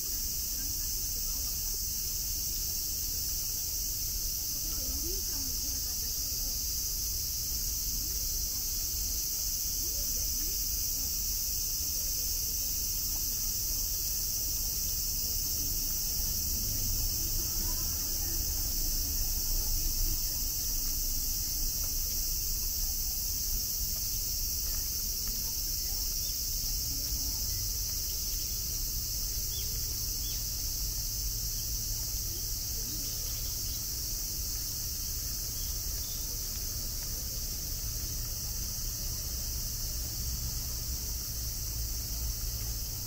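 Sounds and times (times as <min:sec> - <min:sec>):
insects buzzing high-pitched: 0:00.0 - 0:43.0.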